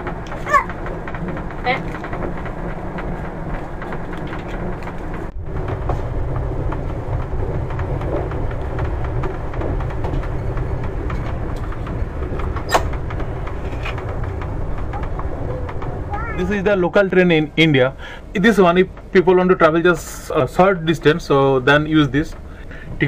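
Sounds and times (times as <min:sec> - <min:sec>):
train coach low rumble: 0:00.0 - 0:23.0.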